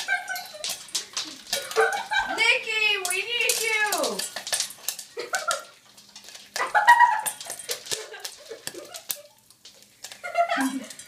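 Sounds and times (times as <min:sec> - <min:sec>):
popcorn popping in a saucepan: 0:00.0 - 0:11.0.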